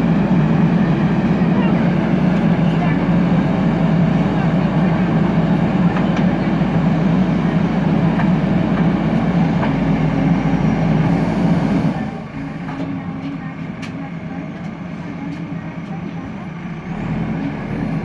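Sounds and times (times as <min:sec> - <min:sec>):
backhoe diesel engine under load: 0:00.0 - 0:18.0.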